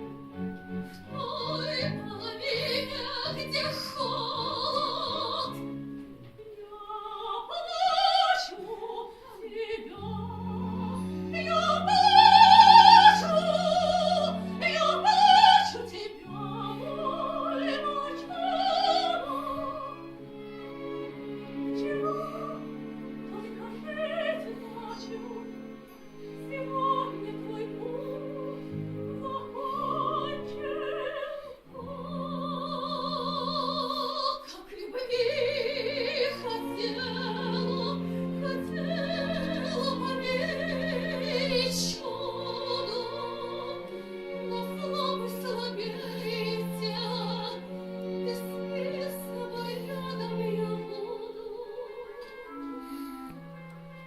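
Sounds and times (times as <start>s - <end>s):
orchestral accompaniment: 0.0s - 54.0s.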